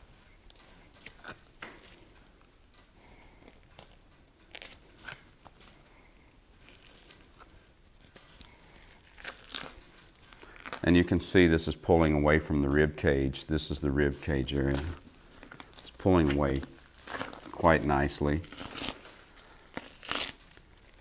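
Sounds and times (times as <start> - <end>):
soft clicks and tearing of meat: 0.2 - 10.9, 14.5 - 21.0.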